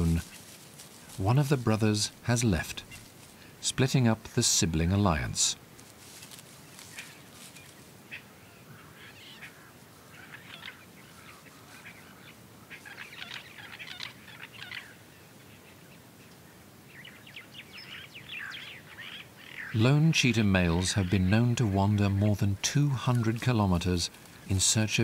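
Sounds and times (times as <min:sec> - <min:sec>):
birds chirping: 0:00.0 - 0:05.8, 0:06.5 - 0:25.0
faint steady hiss: 0:00.0 - 0:25.0.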